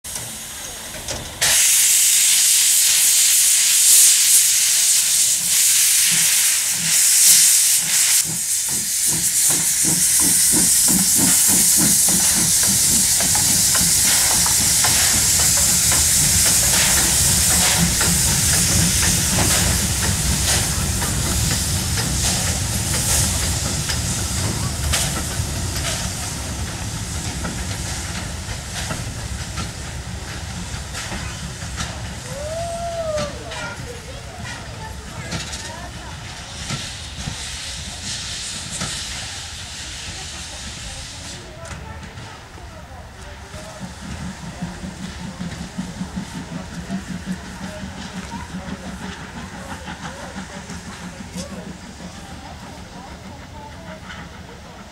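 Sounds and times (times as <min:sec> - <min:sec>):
loud hiss of steam: 0:00.1 - 0:54.9
steam locomotive exhaust beats: 0:00.1 - 0:54.9.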